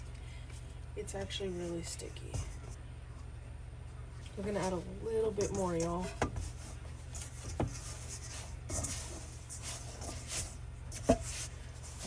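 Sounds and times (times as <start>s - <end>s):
hands kneading bread dough: 0.0s - 12.0s
steady low hum: 0.0s - 12.0s.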